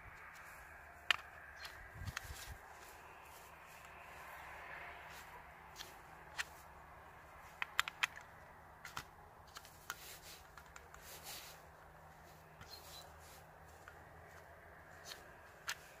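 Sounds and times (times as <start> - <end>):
handling noise: 0.2 - 16.0.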